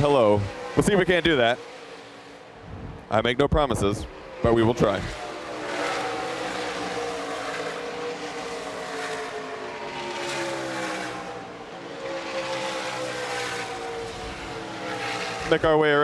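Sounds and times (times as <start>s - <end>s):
race trucks passing at speed: 0.0s - 16.0s.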